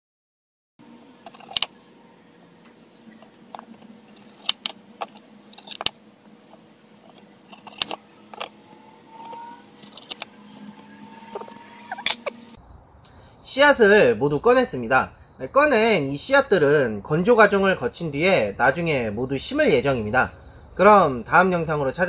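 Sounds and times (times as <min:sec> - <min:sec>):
low steady hum: 0:00.8 - 0:22.0.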